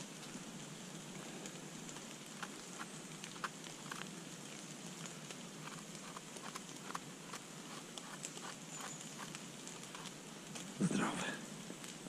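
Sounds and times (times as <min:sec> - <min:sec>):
rain pattering on leaves: 0:00.0 - 0:12.0.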